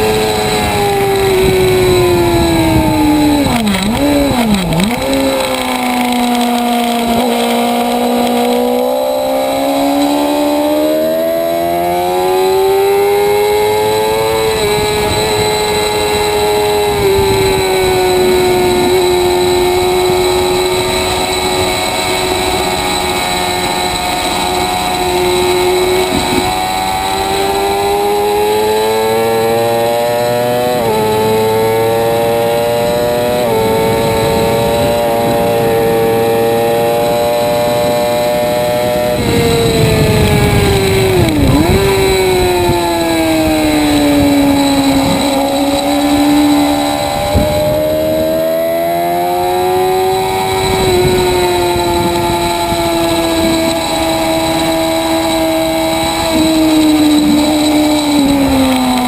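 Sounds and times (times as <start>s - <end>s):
motorcycle engine at high revs: 0.0s - 59.0s
wind rush: 0.0s - 59.0s.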